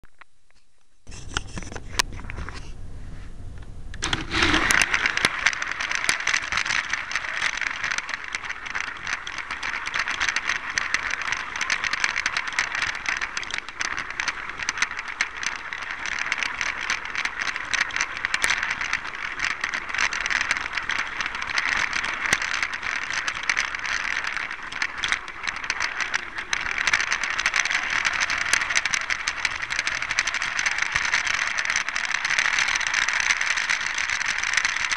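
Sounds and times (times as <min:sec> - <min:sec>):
toy train rattling on track: 0:04.0 - 0:34.9.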